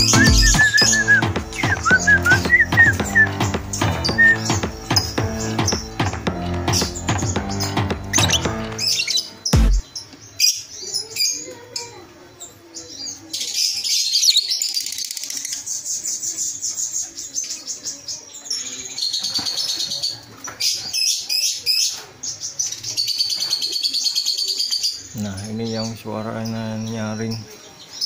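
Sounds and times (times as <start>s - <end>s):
birds chirping rapidly: 0.0s - 28.0s.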